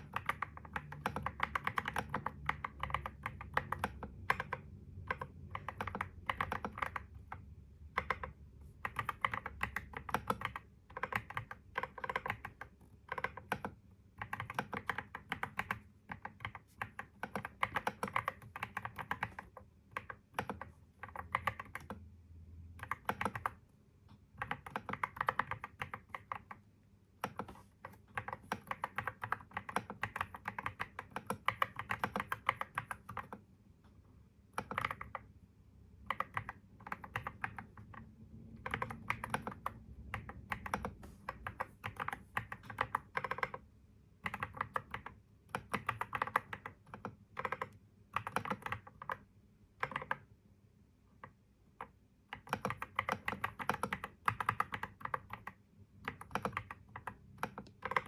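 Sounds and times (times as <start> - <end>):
computer keyboard typing: 0.0 - 33.5, 34.5 - 35.4, 36.0 - 50.4, 51.2 - 58.0.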